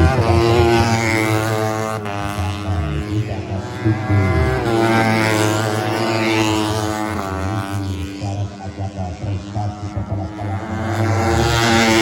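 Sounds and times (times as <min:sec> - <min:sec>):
motorcycle engines at high revs: 0:00.0 - 0:12.0.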